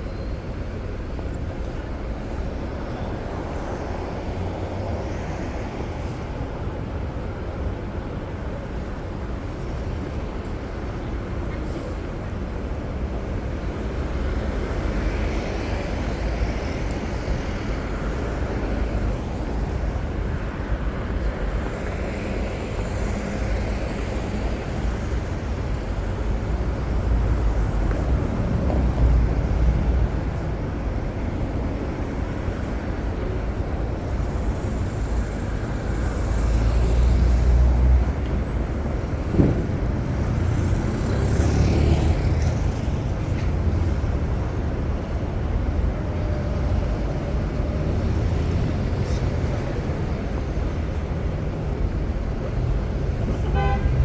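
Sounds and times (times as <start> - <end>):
low rumble of vehicles passing close: 0.0 - 54.0
passing engines and tyres: 0.0 - 54.0.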